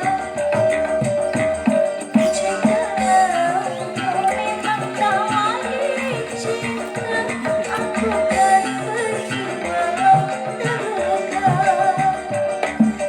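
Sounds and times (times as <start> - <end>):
drums and rattling percussion: 0.0 - 13.0
music with wavering vocal melody: 0.0 - 13.0.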